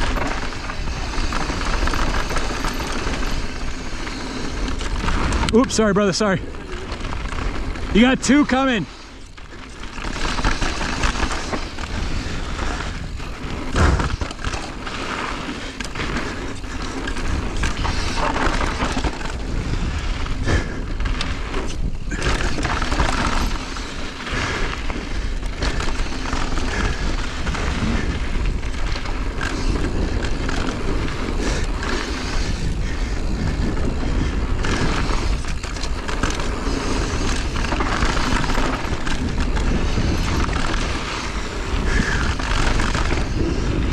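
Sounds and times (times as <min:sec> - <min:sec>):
bike knocking and clattering: 0:00.0 - 0:43.9
bike tyres rolling over rock: 0:00.0 - 0:43.9.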